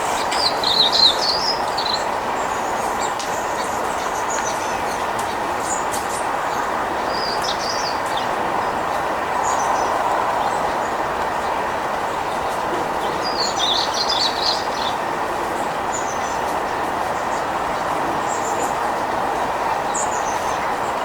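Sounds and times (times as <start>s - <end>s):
songbirds chirping: 0.0s - 21.0s
steady rushing background noise: 0.0s - 21.0s.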